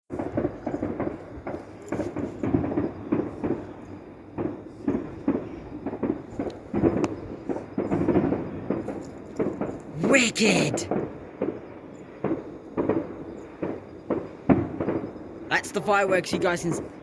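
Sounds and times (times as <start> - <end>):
distant fireworks booming: 0.1 - 15.8.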